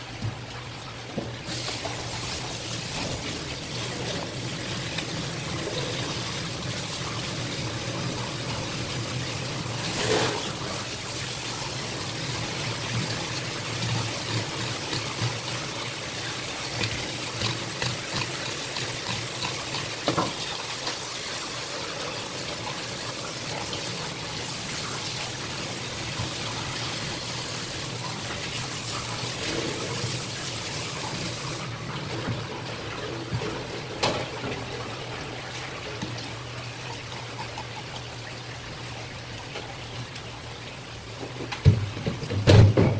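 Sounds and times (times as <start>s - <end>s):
tap water spraying: 0.0s - 38.4s, 41.0s - 42.9s.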